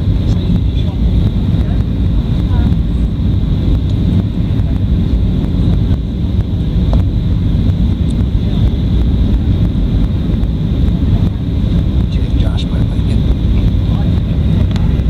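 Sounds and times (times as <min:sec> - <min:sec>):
jet airliner cabin noise: 0:00.0 - 0:15.0.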